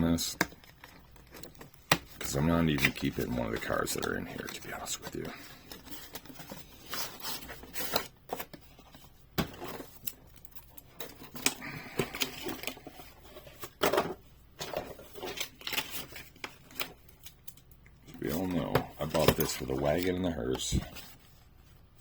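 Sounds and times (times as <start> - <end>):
packaging crinkling and clicking: 0.1 - 21.4.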